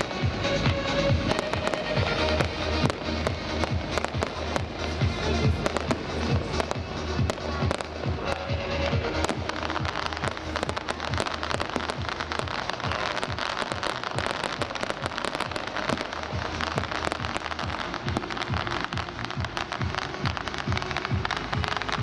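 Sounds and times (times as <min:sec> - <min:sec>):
background music: 0:00.0 - 0:22.0
fireworks crackling: 0:00.0 - 0:22.0
fireworks popping and banging: 0:00.0 - 0:22.0.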